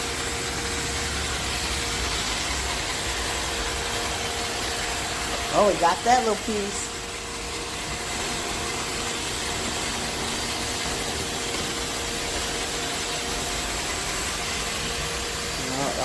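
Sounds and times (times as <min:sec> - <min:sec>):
robot vacuum whirring hum: 0:00.0 - 0:16.0.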